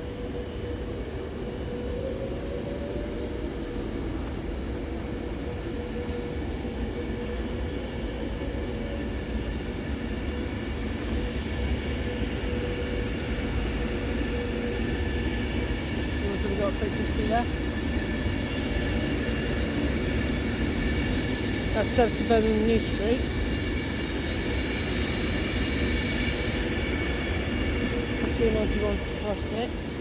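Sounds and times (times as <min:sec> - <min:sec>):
low train rumble: 0:00.0 - 0:30.0
train traction whine: 0:00.0 - 0:30.0.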